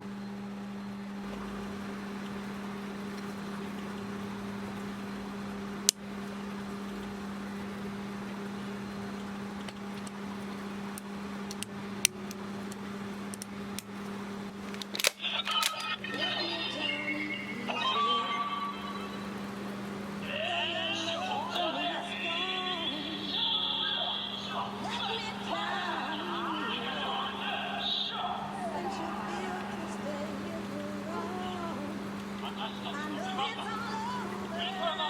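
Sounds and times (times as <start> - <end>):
electrical hum with hiss: 0.0 - 35.0.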